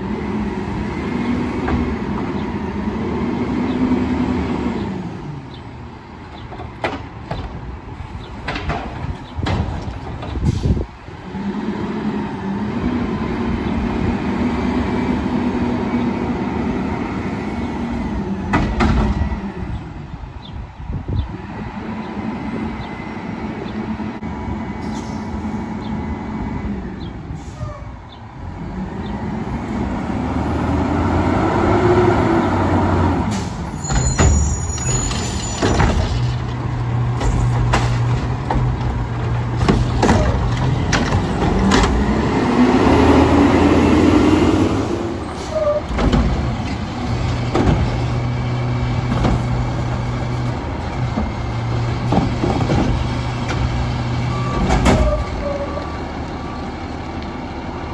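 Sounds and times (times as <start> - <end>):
diesel engine revving: 0.0 - 6.1, 10.4 - 20.5, 21.1 - 33.8, 35.8 - 57.9.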